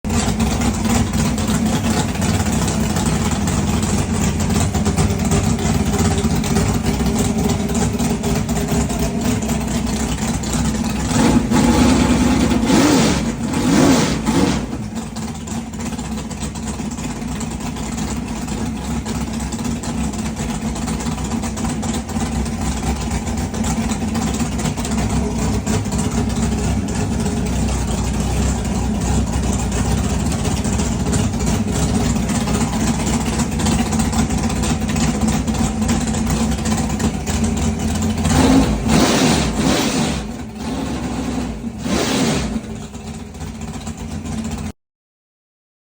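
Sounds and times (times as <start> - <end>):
engine idling and revving: 0.0 - 44.8.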